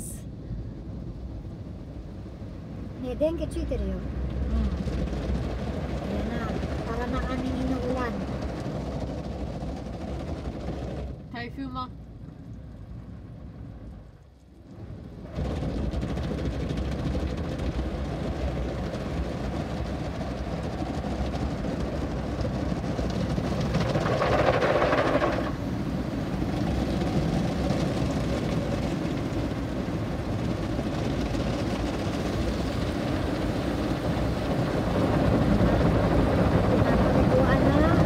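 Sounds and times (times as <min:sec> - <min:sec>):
water spraying on car: 0:03.1 - 0:10.9, 0:15.3 - 0:38.0.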